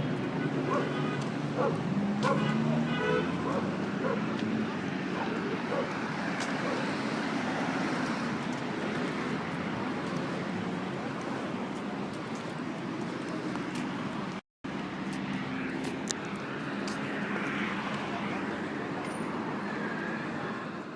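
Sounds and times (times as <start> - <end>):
traffic: 0.0 - 20.9.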